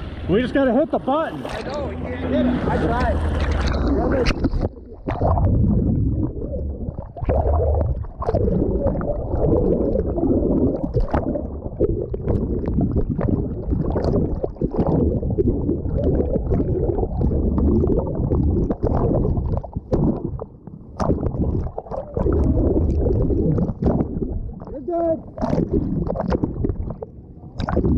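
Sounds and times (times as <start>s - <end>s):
water sloshing and gurgling: 0.0s - 27.9s.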